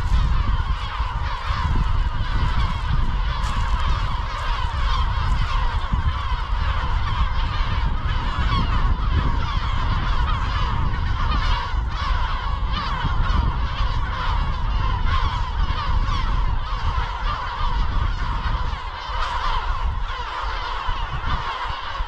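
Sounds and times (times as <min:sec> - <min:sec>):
gulls calling: 0:00.0 - 0:22.0
low wind rumble: 0:00.0 - 0:22.0.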